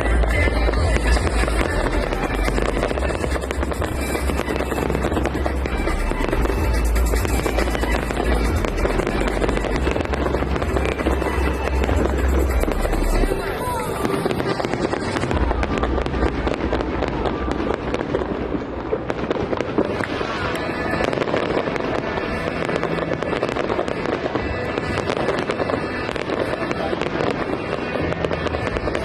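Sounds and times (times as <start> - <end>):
fireworks crackling: 0.0 - 29.0.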